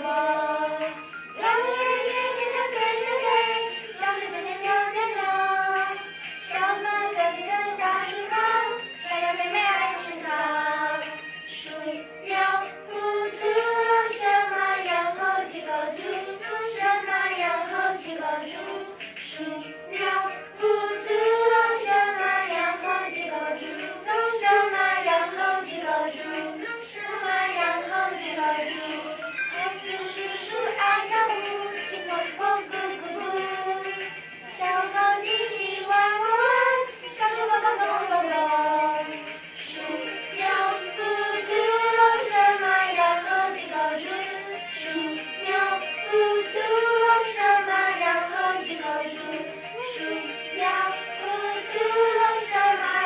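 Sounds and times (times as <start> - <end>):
children singing: 0.0 - 53.0.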